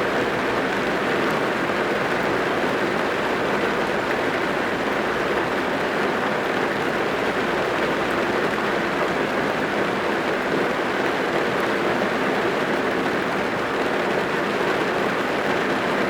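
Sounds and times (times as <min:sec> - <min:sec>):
rain on a car roof: 0:00.0 - 0:16.0.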